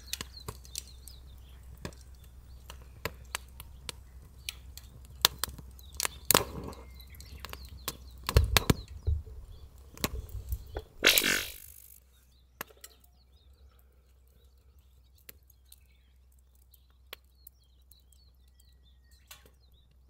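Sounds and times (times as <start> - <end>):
firewood crackling: 0.0 - 20.0.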